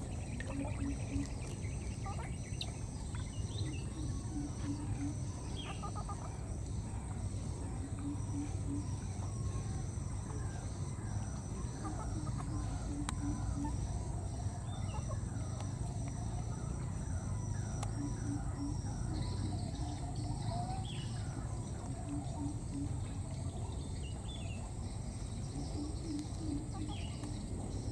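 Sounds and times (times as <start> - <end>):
steady high-pitched drone: 0.0 - 27.9.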